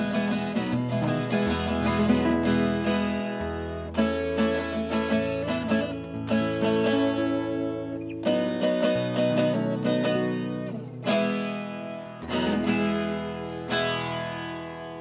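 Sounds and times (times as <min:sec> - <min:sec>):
steel-string guitar strummed and picked: 0:00.0 - 0:15.0.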